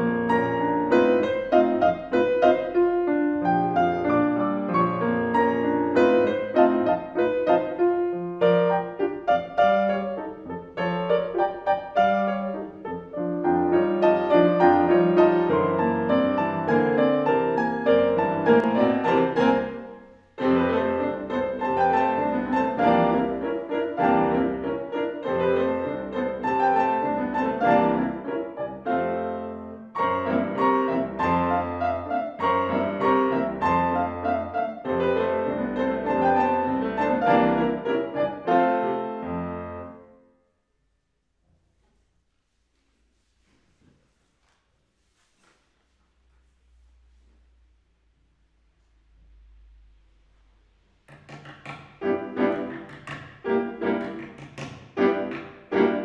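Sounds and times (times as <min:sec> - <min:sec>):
piano duet: 0:00.0 - 0:41.0, 0:46.1 - 0:56.0.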